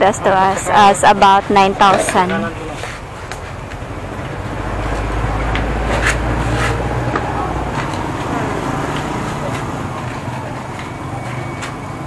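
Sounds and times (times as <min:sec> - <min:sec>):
passing vehicle engine rumble: 0:00.0 - 0:12.0
street noise: 0:00.0 - 0:12.0.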